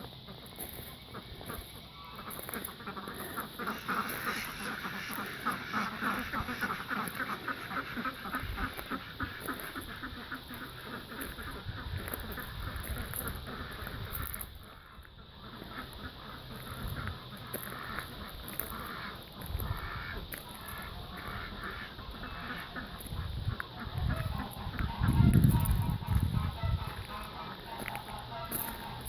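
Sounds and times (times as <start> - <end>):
ducks and geese calling: 0.0 - 29.0.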